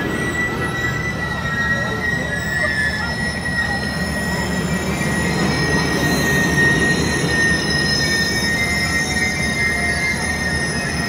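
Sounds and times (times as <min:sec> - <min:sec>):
high-pitched wheel squeal: 0:00.0 - 0:11.0
train wheels rumbling on rails: 0:00.0 - 0:11.0.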